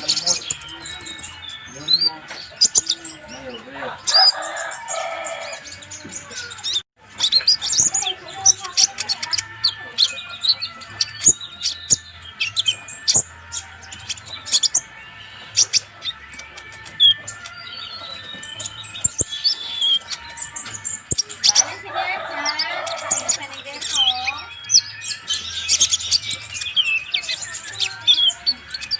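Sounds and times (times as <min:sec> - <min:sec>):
bird chirping and trilling: 0:00.0 - 0:28.9.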